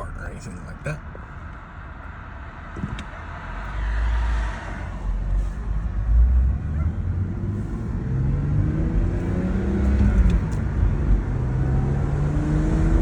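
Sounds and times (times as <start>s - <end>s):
wind and road noise: 0.0s - 13.0s
car engine accelerating: 2.5s - 13.0s.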